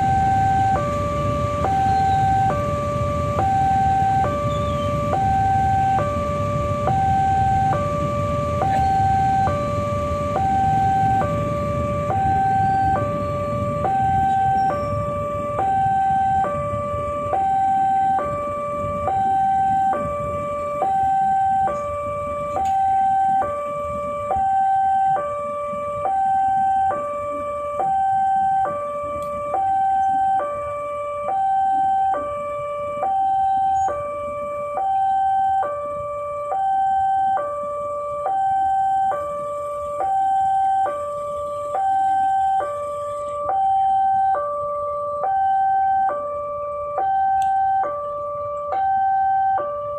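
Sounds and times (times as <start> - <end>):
level crossing two-tone alarm: 0.0 - 49.9
low traffic rumble: 0.0 - 49.9.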